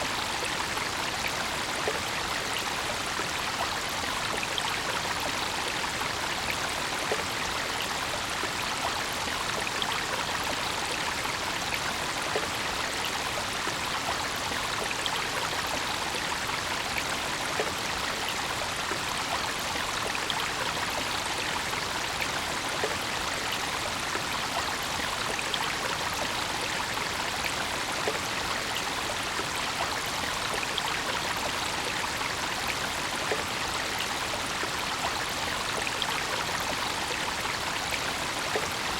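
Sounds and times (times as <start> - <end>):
brook water running over stones: 0.0 - 38.9.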